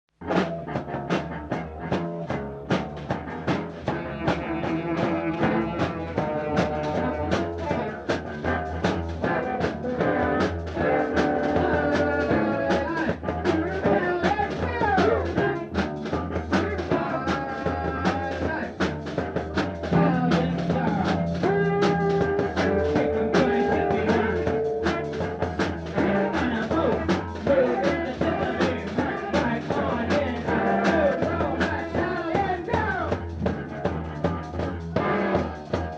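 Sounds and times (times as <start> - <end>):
drum kit beat: 0.1 - 35.9
rock band playing: 0.1 - 35.9.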